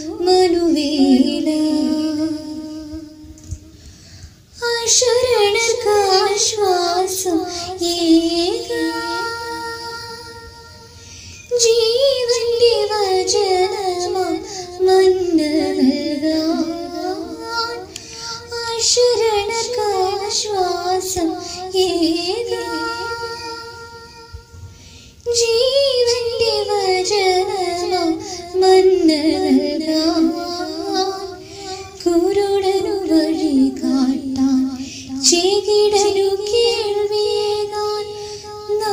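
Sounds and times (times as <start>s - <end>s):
woman singing devotional song: 0.0s - 38.9s.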